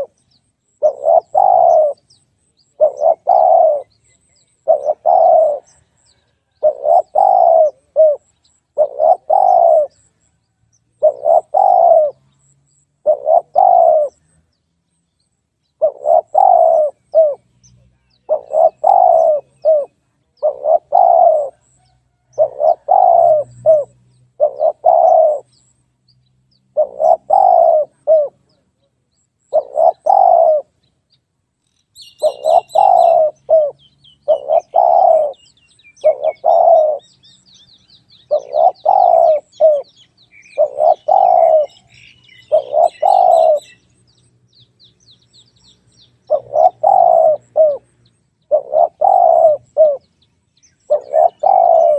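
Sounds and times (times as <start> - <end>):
dove cooing: 0.0 - 0.2, 0.8 - 10.2, 11.0 - 14.4, 15.8 - 17.5, 18.2 - 25.6, 26.7 - 28.7, 29.5 - 30.8, 32.0 - 43.8, 46.2 - 50.1, 50.9 - 51.9
small birds chirping: 0.0 - 51.9.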